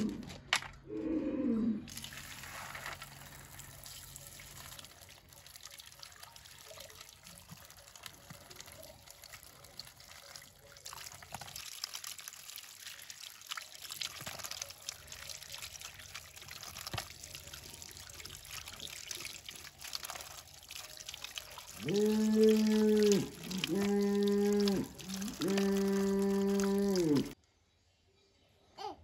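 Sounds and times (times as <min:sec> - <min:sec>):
vegetables rinsed by hand: 0:01.9 - 0:27.4
water running from a tap: 0:01.9 - 0:27.4
water trickling into a metal bowl: 0:01.9 - 0:27.4.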